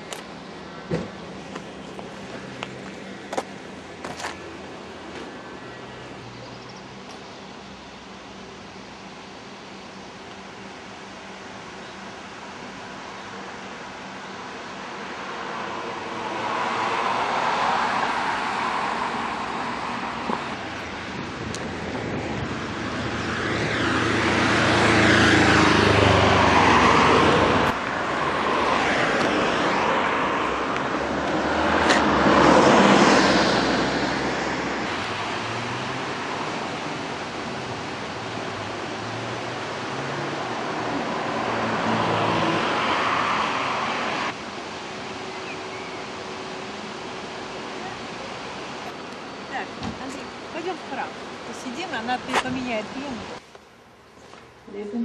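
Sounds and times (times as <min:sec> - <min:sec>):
cars passing close by: 0:00.0 - 0:55.0.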